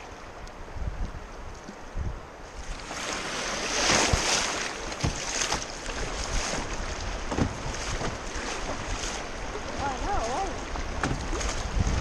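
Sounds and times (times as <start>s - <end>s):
river water splashing: 0.0s - 12.0s
wind buffeting microphone: 0.0s - 12.0s.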